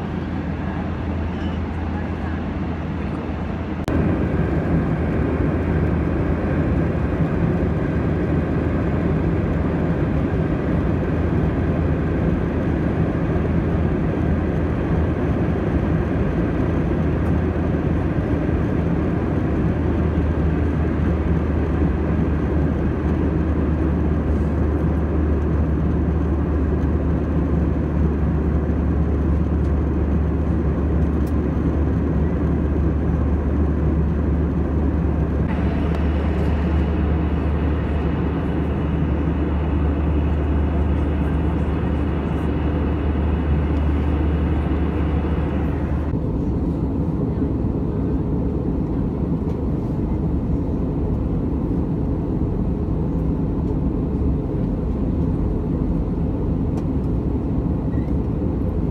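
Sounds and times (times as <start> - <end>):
low drone of jet engines: 0.0 - 58.9.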